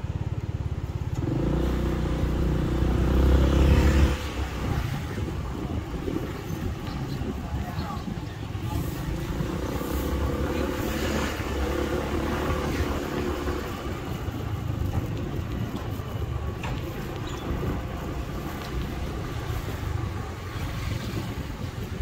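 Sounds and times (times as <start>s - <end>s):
traffic rumble: 0.0s - 22.0s
passing vehicle engine: 1.1s - 6.7s, 8.6s - 22.0s.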